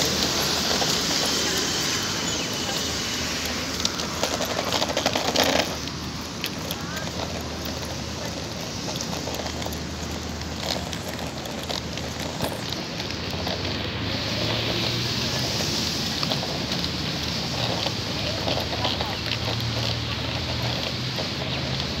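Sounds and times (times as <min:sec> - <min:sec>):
low traffic rumble: 0:00.0 - 0:22.0
wet street hiss: 0:00.0 - 0:22.0.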